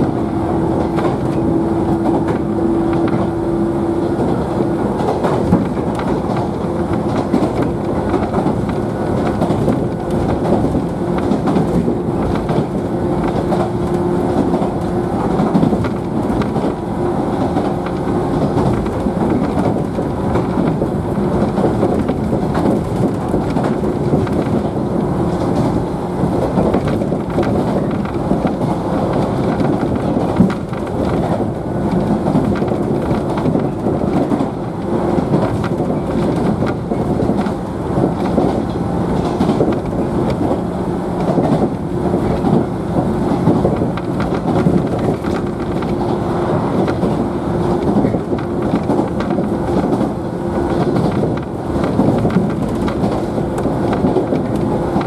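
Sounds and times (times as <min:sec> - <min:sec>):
wheel and rail rumble: 0:00.0 - 0:55.0.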